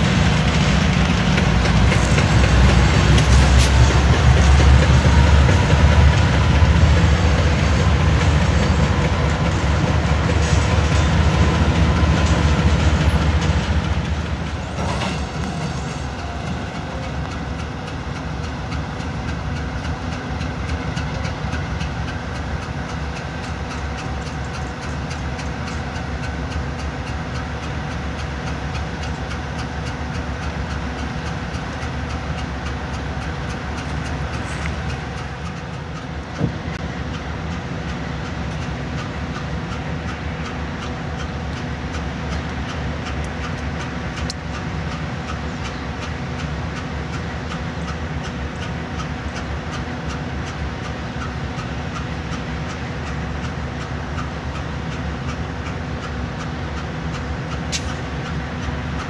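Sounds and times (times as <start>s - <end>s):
diesel locomotive idling: 0.0s - 59.0s
freight train rumbling past: 0.0s - 59.0s.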